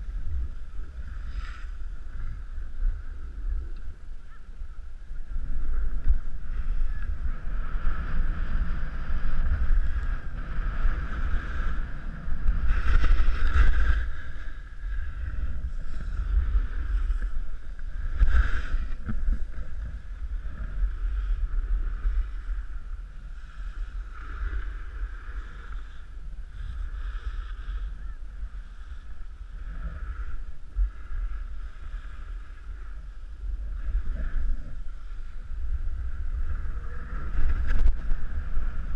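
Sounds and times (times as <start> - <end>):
skis sliding on snow: 0.0 - 3.1, 6.6 - 38.9
wind rushing over microphone: 0.0 - 38.9.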